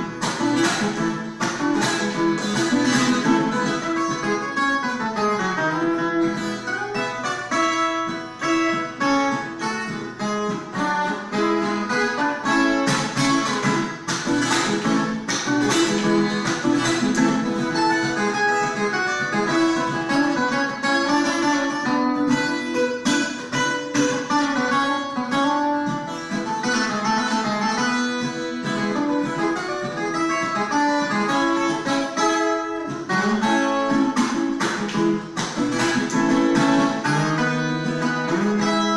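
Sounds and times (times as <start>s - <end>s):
plucked folk guitar: 0.0s - 38.9s.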